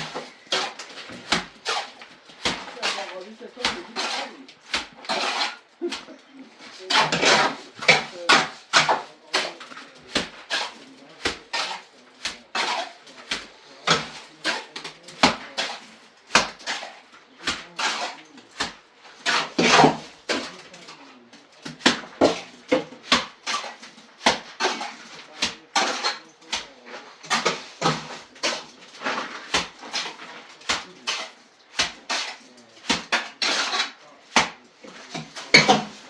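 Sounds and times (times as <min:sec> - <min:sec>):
hard objects knocking and clattering: 0:00.0 - 0:36.0.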